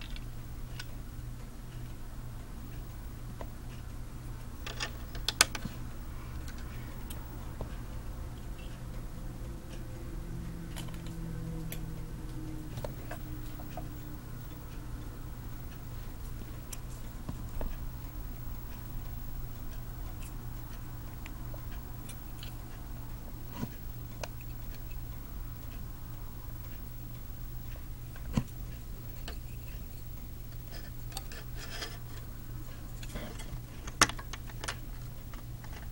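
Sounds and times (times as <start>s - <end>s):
low hum: 0.0s - 35.9s.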